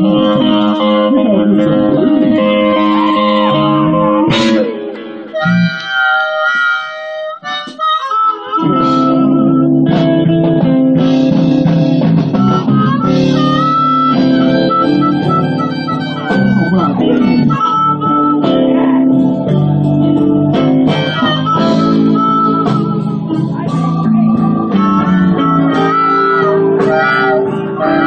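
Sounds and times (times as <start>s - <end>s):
electric guitar: 0.0s - 28.0s
harmonica playing lead: 0.0s - 28.0s
live blues band: 0.0s - 28.0s.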